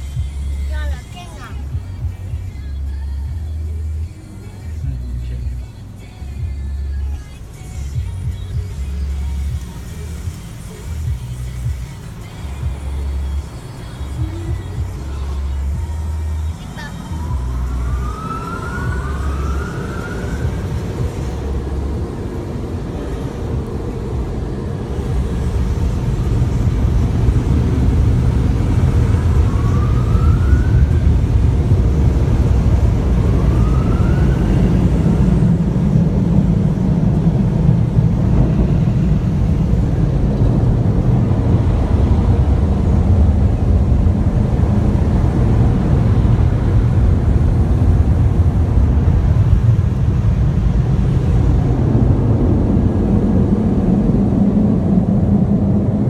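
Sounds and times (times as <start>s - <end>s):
car wash rumbling and rushing: 0.0s - 56.0s.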